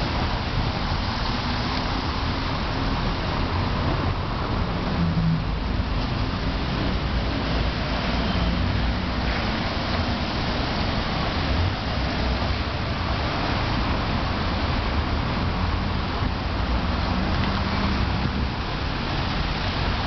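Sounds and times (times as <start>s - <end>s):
bus running nearby: 0.0s - 20.0s
street traffic rumble: 0.0s - 20.0s.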